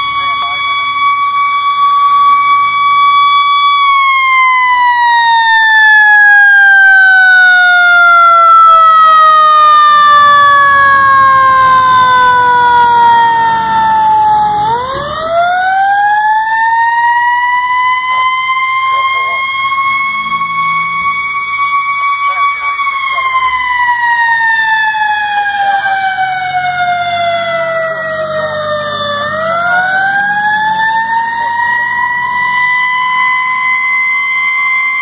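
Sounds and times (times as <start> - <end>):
fire engine siren: 0.0 - 35.0.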